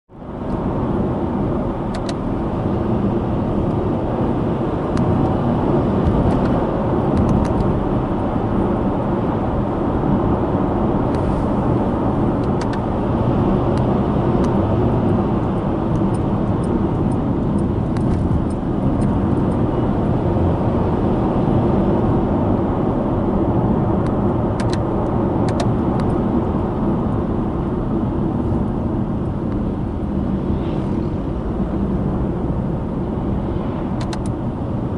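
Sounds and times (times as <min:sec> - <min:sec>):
road and tyre rumble: 0:00.1 - 0:34.9.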